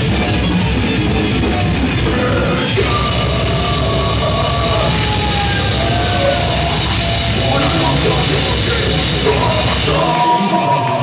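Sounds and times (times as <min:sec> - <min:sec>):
death metal band playing: 0:00.0 - 0:11.0
sliding guitar notes: 0:00.0 - 0:11.0.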